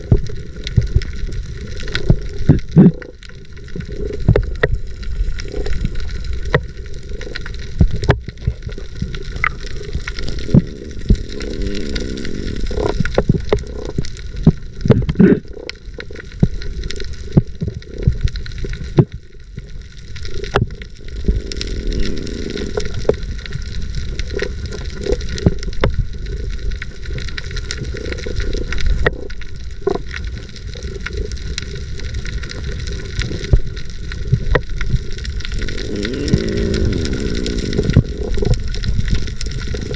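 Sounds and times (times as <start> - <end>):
underwater rush and gurgle: 0.0 - 39.9.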